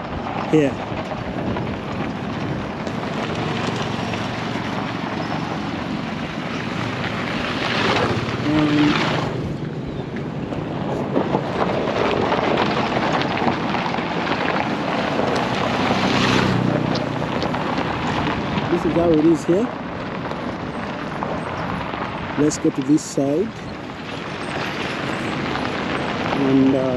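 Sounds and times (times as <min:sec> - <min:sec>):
outdoor rumble: 0:00.0 - 0:26.9
wind buffeting microphone: 0:00.0 - 0:26.9.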